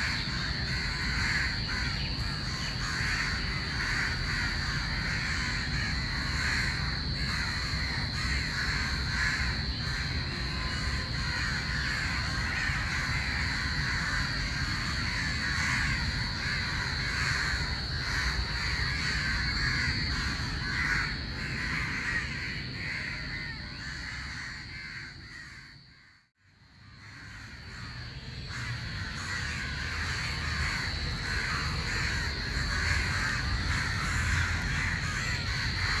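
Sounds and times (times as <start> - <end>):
crows cawing: 0.0 - 36.0.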